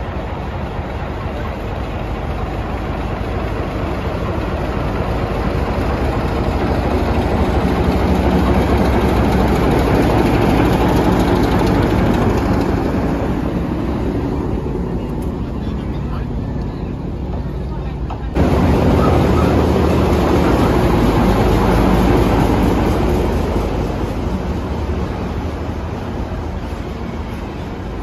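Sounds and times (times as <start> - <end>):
diesel locomotive engine idling: 0.0 - 28.0.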